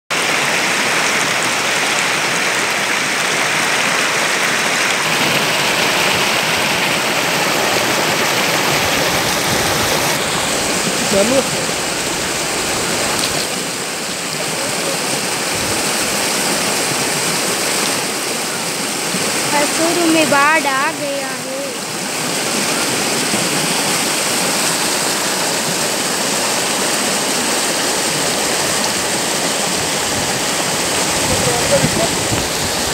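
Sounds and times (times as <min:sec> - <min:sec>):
floodwater rushing: 0:00.1 - 0:32.9.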